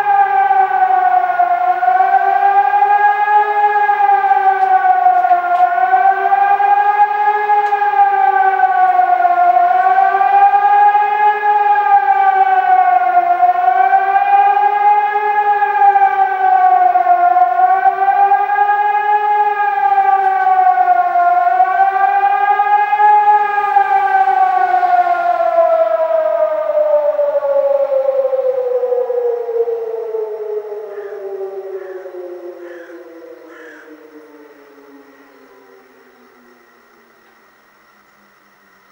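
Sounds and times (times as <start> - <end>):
warning siren rising and falling: 0.0 - 38.9.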